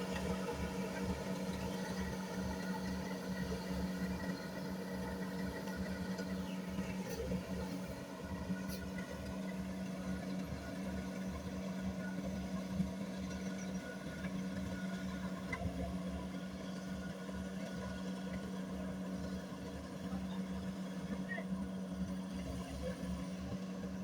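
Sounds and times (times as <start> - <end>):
diesel engine drone: 0.0 - 24.0.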